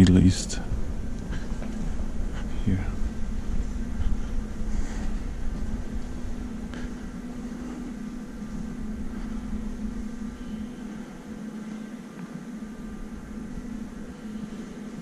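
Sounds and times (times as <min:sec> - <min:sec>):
low rumble: 0:00.0 - 0:12.0, 0:12.6 - 0:15.0
mechanical hum: 0:00.0 - 0:15.0.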